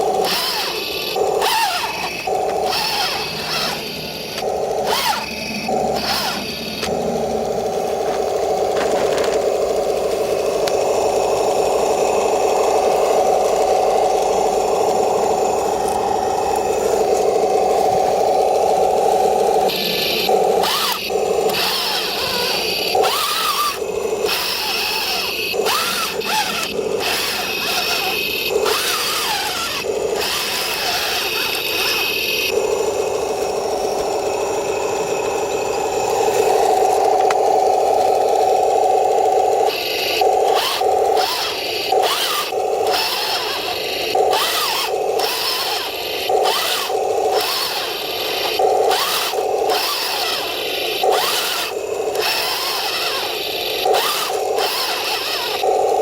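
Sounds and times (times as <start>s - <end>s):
toy tank motor whine: 0.0s - 56.0s.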